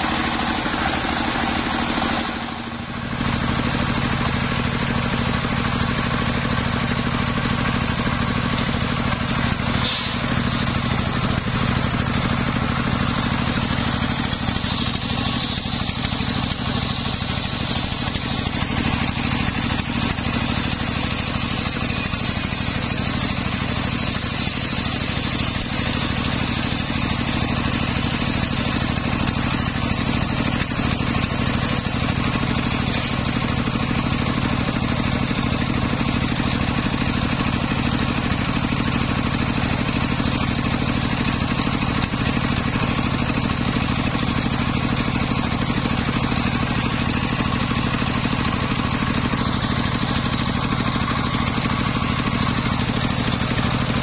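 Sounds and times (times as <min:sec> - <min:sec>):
circular saw blade cutting timber: 0:00.0 - 0:54.0
engine running: 0:00.0 - 0:54.0.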